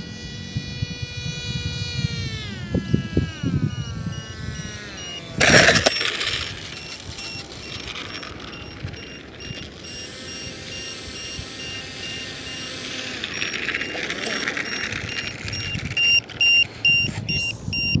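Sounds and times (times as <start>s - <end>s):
electric motor whine: 0.0s - 18.0s
short electronic beeps: 2.0s - 18.0s.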